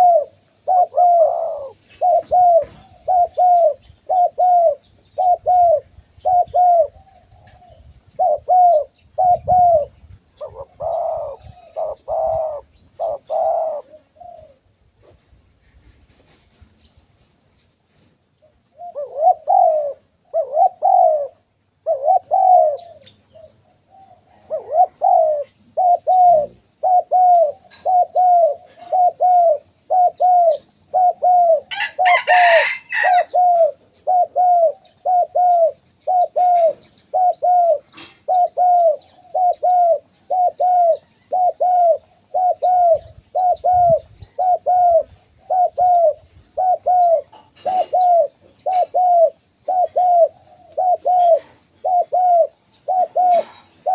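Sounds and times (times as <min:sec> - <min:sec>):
dove cooing: 0:00.0 - 0:16.1, 0:18.4 - 0:53.9.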